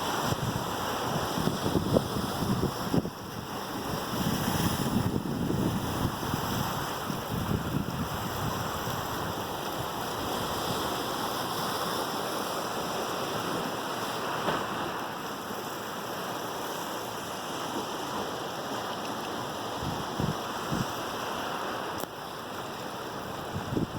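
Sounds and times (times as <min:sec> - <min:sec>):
waves and surf: 0:00.0 - 0:23.9.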